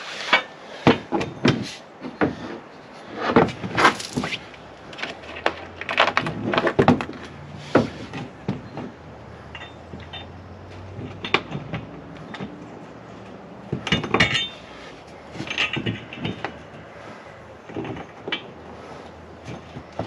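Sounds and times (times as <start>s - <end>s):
metal tools clinking: 3.2s - 20.0s.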